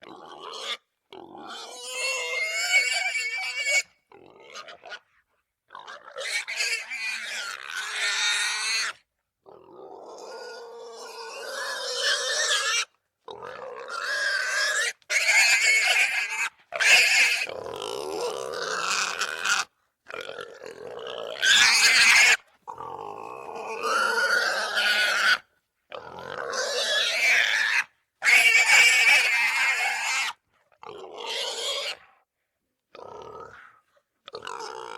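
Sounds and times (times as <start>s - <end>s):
wild boar squealing: 0.0s - 32.2s.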